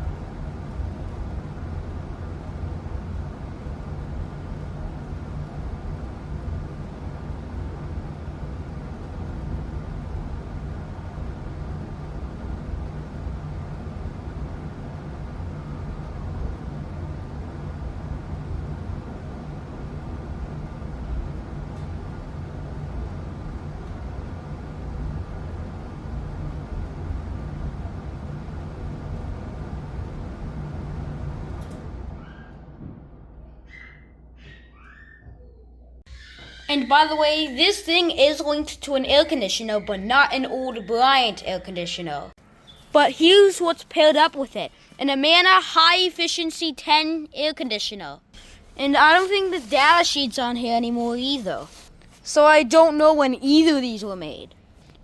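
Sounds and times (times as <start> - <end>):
furnace fan motor hum: 0.0 - 55.0.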